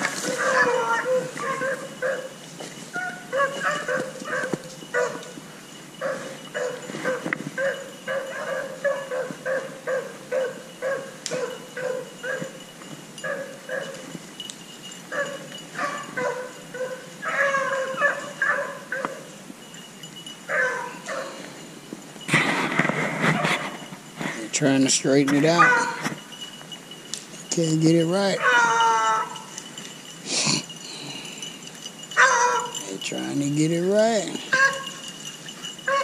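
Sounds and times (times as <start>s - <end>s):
hounds baying and barking: 0.0s - 36.0s.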